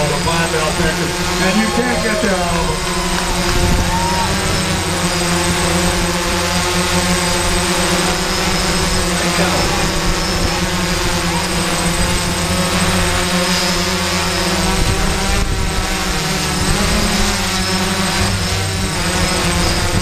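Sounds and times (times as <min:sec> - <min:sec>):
drone motors and propellers humming: 0:00.0 - 0:20.0.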